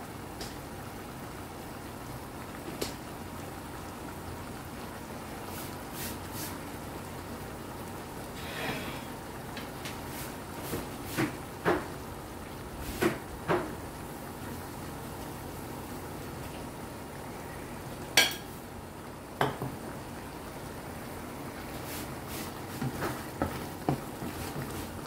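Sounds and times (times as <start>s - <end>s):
stew bubbling in a pan: 0.0s - 25.0s.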